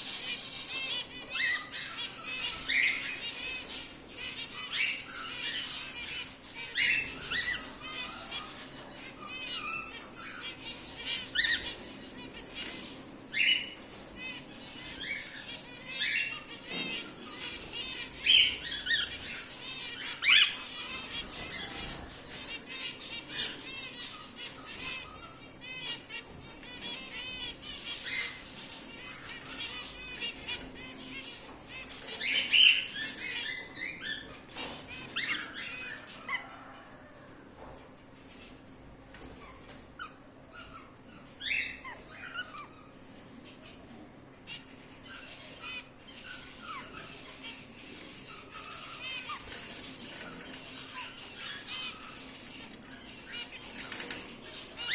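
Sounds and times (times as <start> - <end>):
cockatiels squawking: 0.0 - 37.1, 38.2 - 43.8, 44.4 - 54.9
birds chirping: 0.0 - 54.9.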